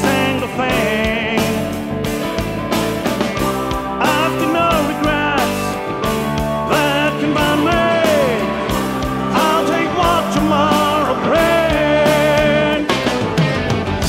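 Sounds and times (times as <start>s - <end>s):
person singing: 0.0s - 1.7s, 3.5s - 13.2s
rock song: 0.0s - 14.0s
steady drum beat: 0.0s - 14.0s.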